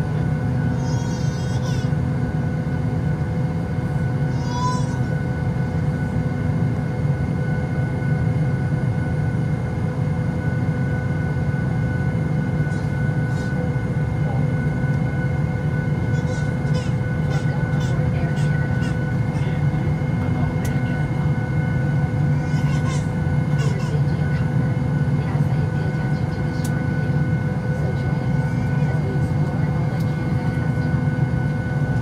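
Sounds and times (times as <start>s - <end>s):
airplane cabin drone: 0.0s - 32.0s.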